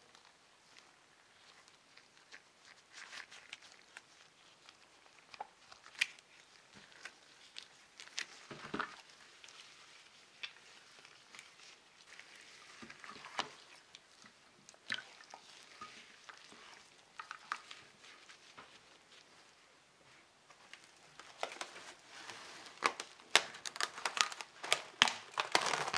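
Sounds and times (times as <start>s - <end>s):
wet squelches of kneading meat: 0.1s - 25.9s.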